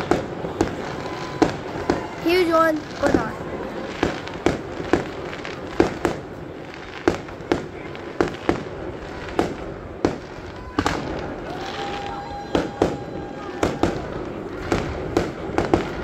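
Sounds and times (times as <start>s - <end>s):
fireworks bangs echoing: 0.0s - 16.0s.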